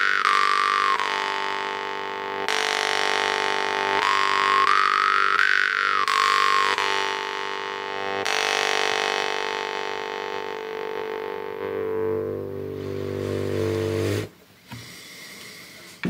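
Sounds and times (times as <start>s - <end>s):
jaw harp drone: 0.0s - 14.3s.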